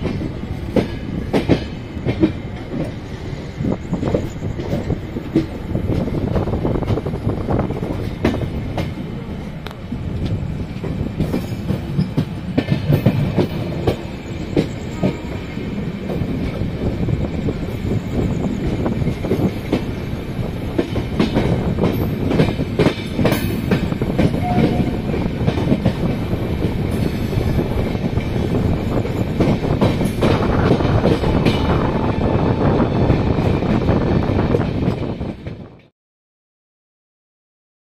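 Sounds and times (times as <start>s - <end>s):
train rumbling on rails: 0.0s - 35.9s.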